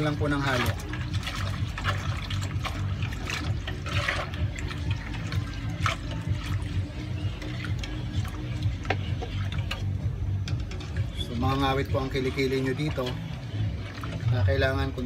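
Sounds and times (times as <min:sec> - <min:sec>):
ladle clinking and scraping pan: 0:00.0 - 0:13.3
liquid pouring into a wok: 0:00.0 - 0:14.7
stew simmering: 0:00.0 - 0:15.0.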